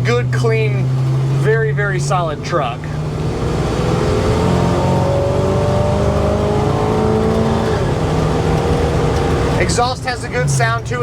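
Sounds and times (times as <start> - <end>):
pickup engine and exhaust running: 0.0 - 11.0.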